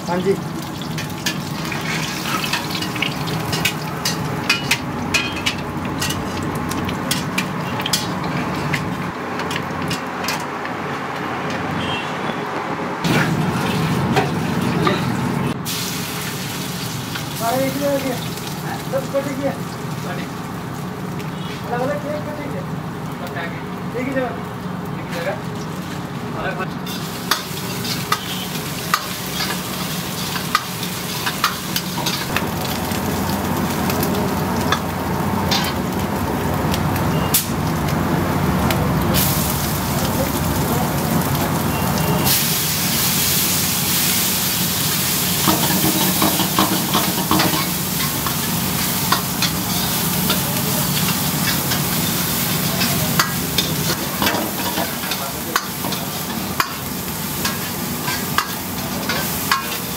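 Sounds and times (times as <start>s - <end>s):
garlic and onion sizzling in oil: 0.0s - 12.0s, 13.0s - 59.9s.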